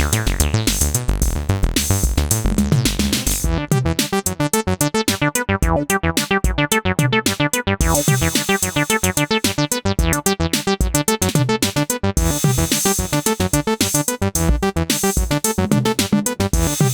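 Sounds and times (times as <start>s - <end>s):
synth acid bass line: 0.0s - 16.9s.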